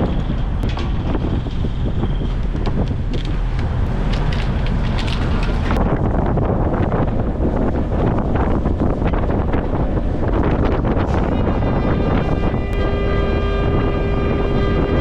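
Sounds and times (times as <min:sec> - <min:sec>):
boat engine rumble: 0:00.0 - 0:15.0
water: 0:00.0 - 0:15.0
wind buffeting microphone: 0:00.0 - 0:15.0.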